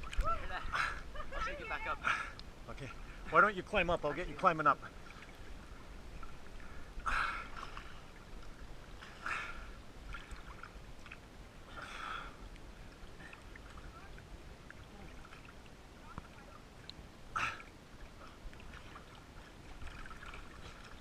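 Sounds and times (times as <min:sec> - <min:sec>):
moving water: 0:00.0 - 0:21.0
water splashing: 0:00.0 - 0:21.0.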